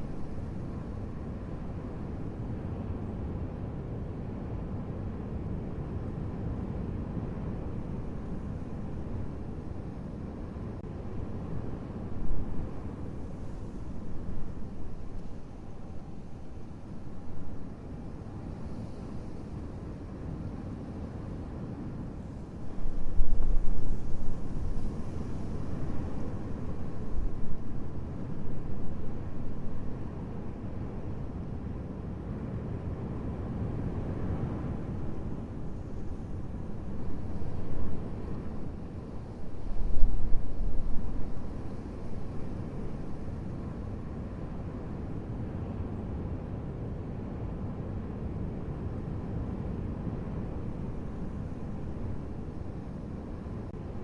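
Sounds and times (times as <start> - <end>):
low rumbling wind: 0.0 - 54.0.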